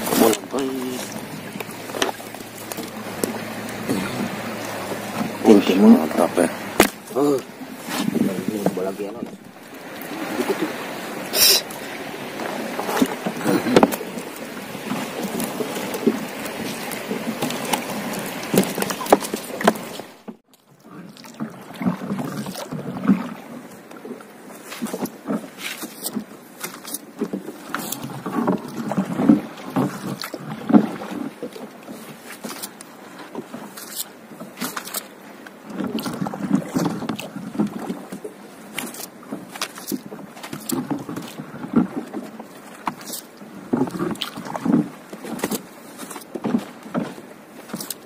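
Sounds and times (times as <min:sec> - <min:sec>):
paddle splashes in water: 0:00.0 - 0:48.0.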